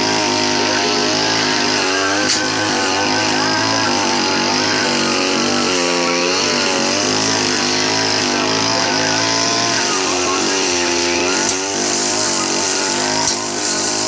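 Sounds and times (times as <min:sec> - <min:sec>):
brush cutter engine running: 0:00.0 - 0:14.0.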